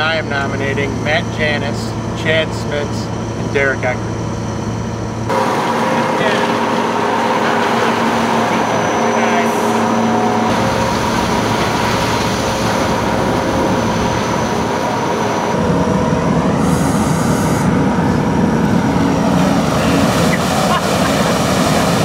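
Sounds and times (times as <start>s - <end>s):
concrete mixer truck rumbling: 0.0s - 22.0s.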